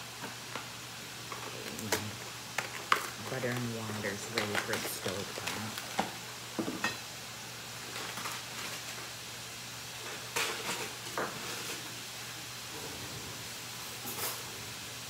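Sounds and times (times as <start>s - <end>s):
vegetables sizzling in skillet: 0.0s - 15.0s.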